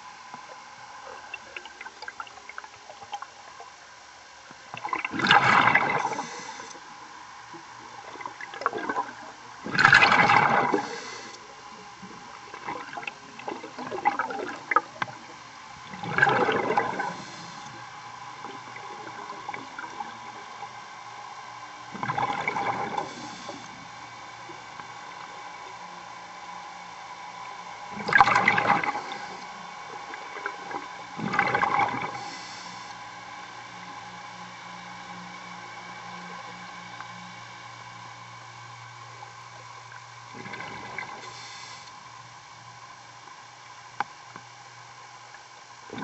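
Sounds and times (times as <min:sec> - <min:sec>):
underwater bubbles rushing: 0:00.0 - 0:38.0, 0:39.0 - 0:41.9, 0:45.4 - 0:46.0
thin steady tone: 0:00.0 - 0:46.0.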